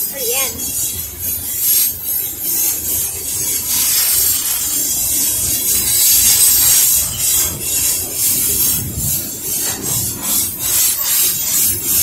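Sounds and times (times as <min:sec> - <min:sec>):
low train rumble: 0:00.0 - 0:12.0
train wheels hissing on track: 0:00.0 - 0:12.0.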